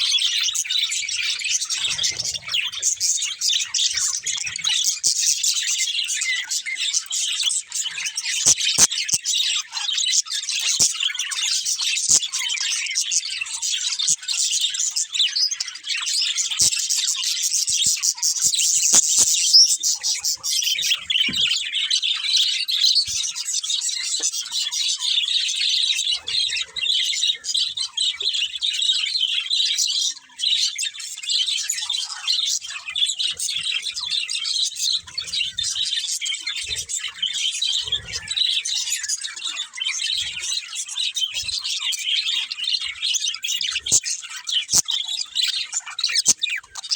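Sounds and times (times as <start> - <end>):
budgerigars chirping: 0.0 - 46.9.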